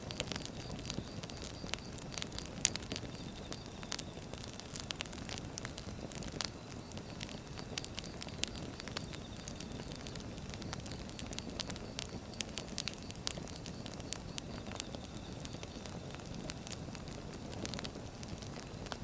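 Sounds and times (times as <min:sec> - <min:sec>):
logs crackling and popping: 0:00.0 - 0:19.0
wood fire low rumble: 0:00.0 - 0:19.0.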